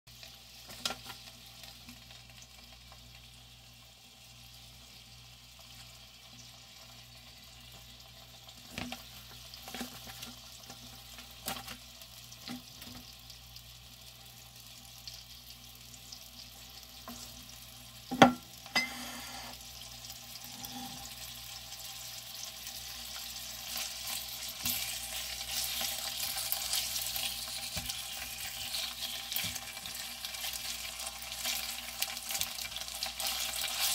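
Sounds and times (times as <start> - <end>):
meat sizzling in a pan: 0.1 - 33.9.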